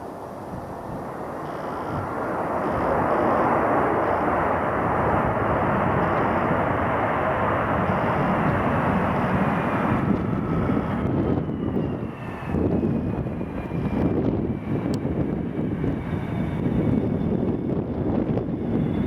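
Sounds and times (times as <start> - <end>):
falling jet engine whine: 0.0 - 19.0
jet engine rush: 0.0 - 19.0.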